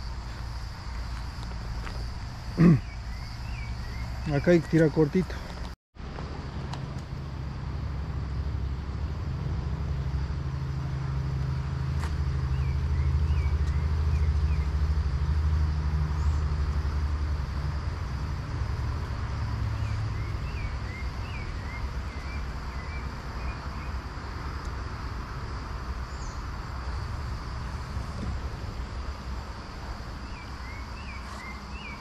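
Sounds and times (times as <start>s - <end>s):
vehicle engine drone: 0.0s - 32.0s.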